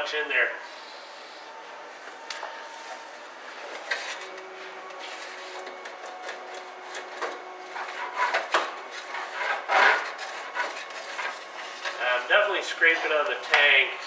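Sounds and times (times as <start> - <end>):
rubbing and scraping in fuel tank: 0.7 - 13.8.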